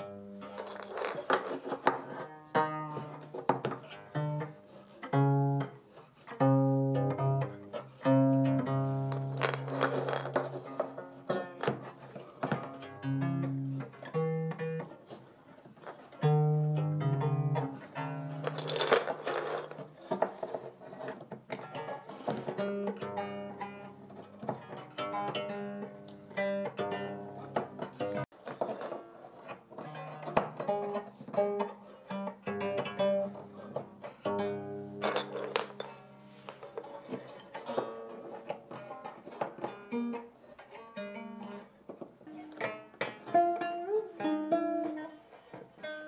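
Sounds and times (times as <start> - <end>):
plucked zither strings: 0.0 - 46.0.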